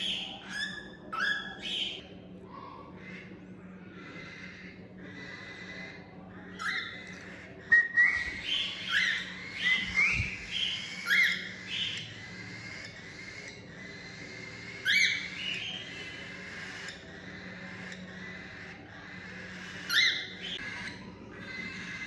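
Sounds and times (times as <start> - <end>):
cockatiels chirping: 0.0 - 2.1, 3.0 - 22.0.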